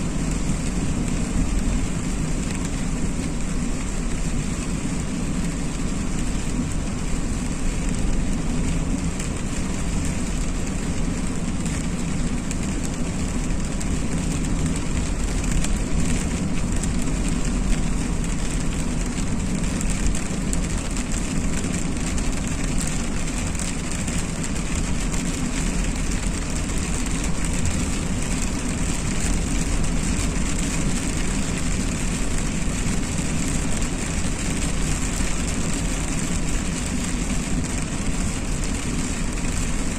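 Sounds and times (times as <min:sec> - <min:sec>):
car road and engine noise: 0:00.0 - 0:39.9
rain hitting car: 0:00.0 - 0:39.9.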